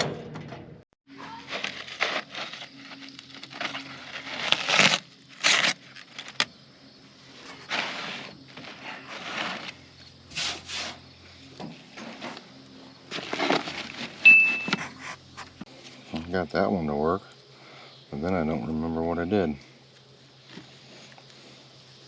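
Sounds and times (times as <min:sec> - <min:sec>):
steady low hum: 0:01.6 - 0:22.0.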